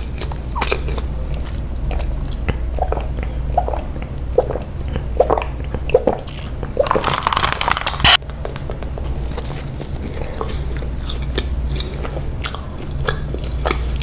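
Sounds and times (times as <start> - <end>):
chewing and swallowing: 0.0 - 8.2, 9.0 - 14.0
low steady hum: 0.0 - 14.0.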